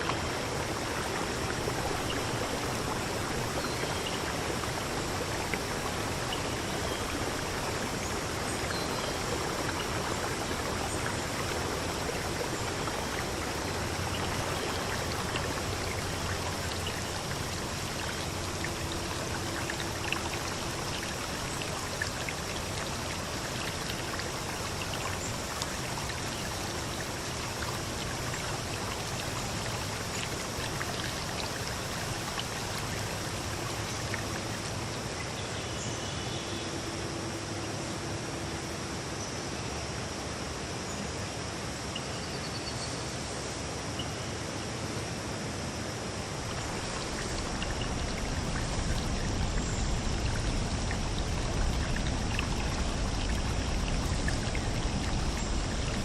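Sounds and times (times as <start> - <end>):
small splashes and drips: 0.0 - 35.4, 46.4 - 56.0
running water: 0.0 - 40.6, 43.7 - 56.0.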